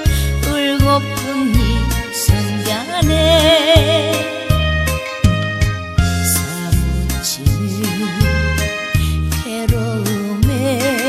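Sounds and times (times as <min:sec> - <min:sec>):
lead melody with vibrato: 0:00.0 - 0:09.6
bass and drum beat: 0:00.0 - 0:11.0.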